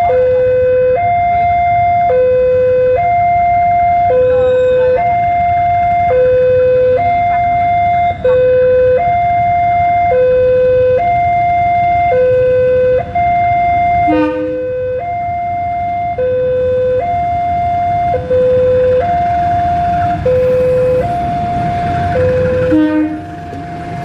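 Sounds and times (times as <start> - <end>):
two-tone level crossing alarm: 0.0 - 23.3
diesel locomotive rumble: 0.0 - 24.0.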